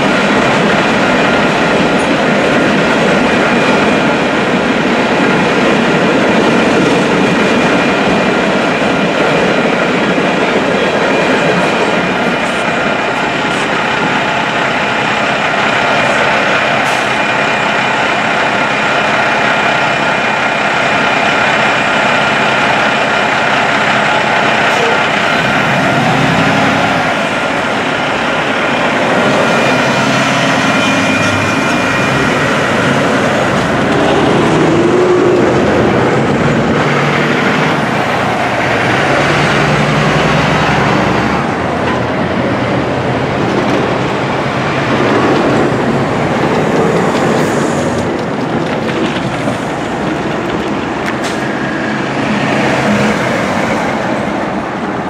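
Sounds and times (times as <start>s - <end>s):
heavy road traffic passing: 0.0s - 55.0s.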